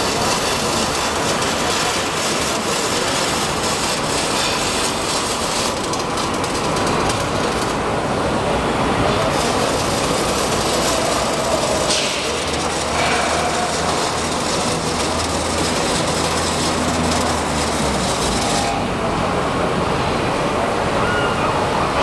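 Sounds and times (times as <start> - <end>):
mechanical noise of welding robot: 0.0 - 19.2.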